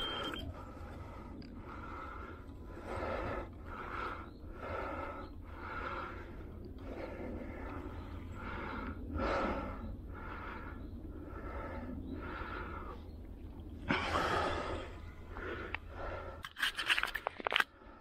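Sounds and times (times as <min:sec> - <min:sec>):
person breathing hard: 0:00.0 - 0:13.2, 0:13.9 - 0:16.6.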